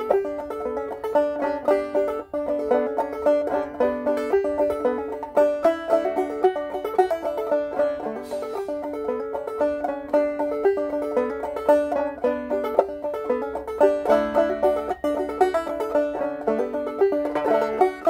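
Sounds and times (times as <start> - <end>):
banjo picking: 0.0 - 18.0.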